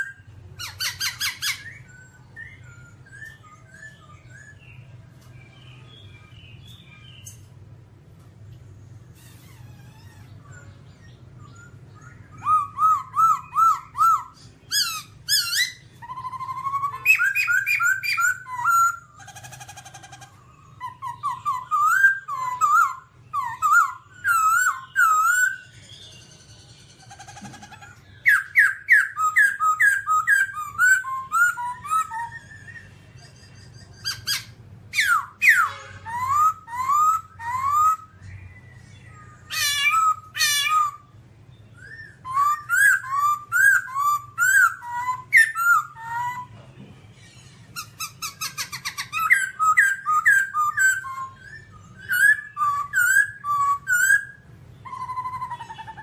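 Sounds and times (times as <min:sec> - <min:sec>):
laughingthrush singing: 0:09.2 - 0:46.7, 0:47.3 - 0:56.0.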